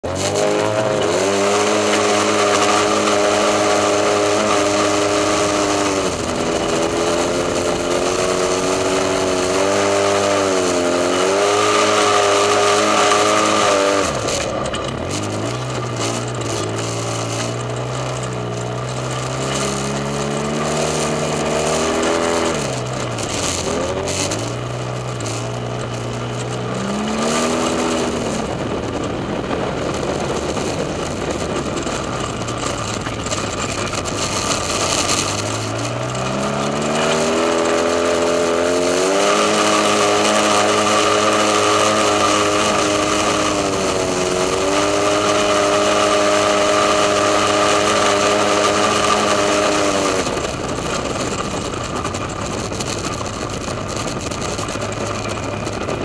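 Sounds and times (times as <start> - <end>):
utv engine revving: 0.0 - 56.0.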